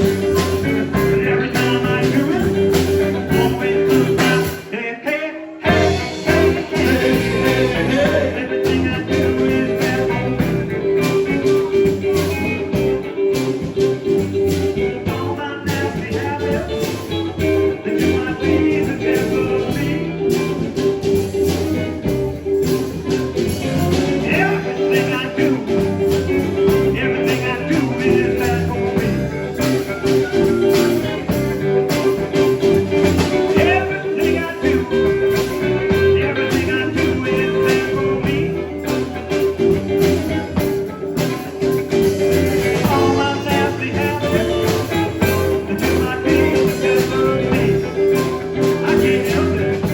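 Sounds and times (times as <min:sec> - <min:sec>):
band playing blues music: 0:00.0 - 0:49.9.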